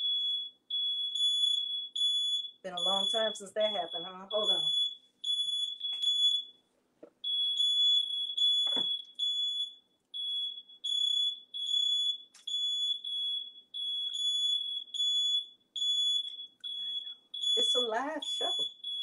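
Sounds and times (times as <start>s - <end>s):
smoke alarm beeping: 0.0s - 6.6s, 7.2s - 19.0s.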